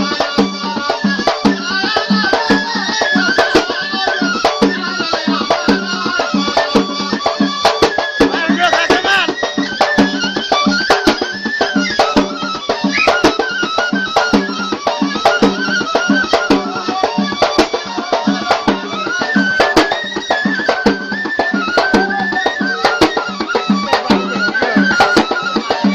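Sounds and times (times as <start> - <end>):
drum beat: 0.0 - 25.9
reed pipe melody: 0.0 - 25.9.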